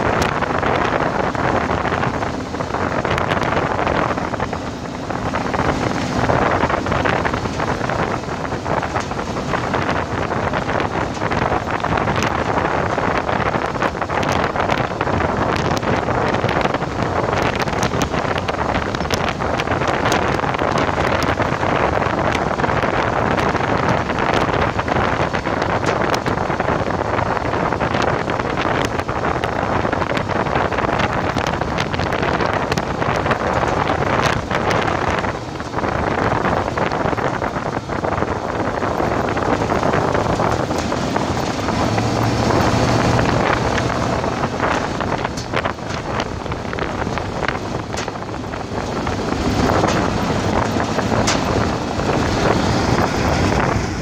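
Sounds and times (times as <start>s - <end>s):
tyre and road noise on gravel: 0.0s - 54.0s
wind buffeting the microphone: 0.0s - 54.0s.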